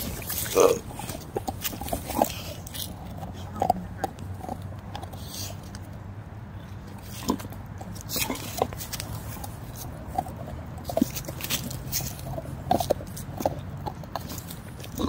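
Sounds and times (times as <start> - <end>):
dogs gnawing on wooden stick: 0.0 - 15.0.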